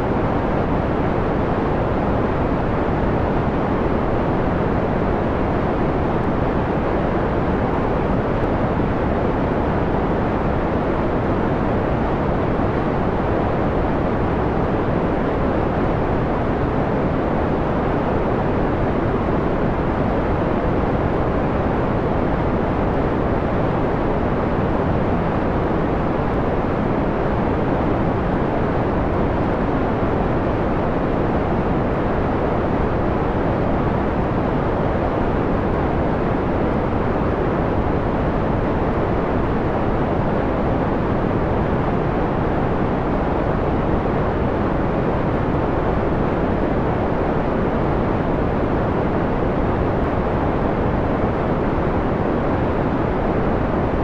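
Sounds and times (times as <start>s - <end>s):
dull filtered white noise: 0.0s - 54.0s.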